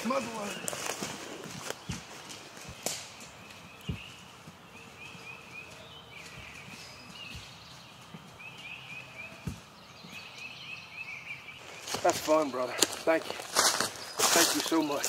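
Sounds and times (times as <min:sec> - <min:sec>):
footsteps through dry leaves: 0:00.0 - 0:09.8, 0:11.6 - 0:15.0
songbird chirping: 0:00.0 - 0:15.0.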